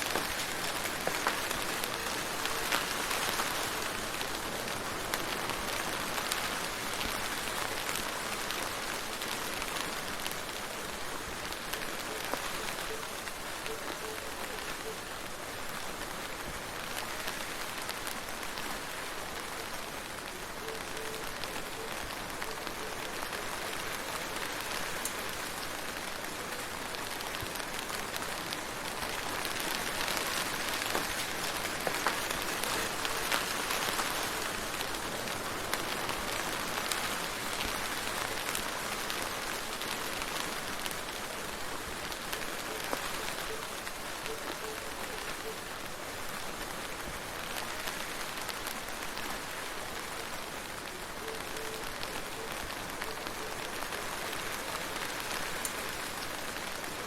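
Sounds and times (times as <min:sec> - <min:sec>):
steady rain with ticking drops: 0:00.0 - 0:57.0.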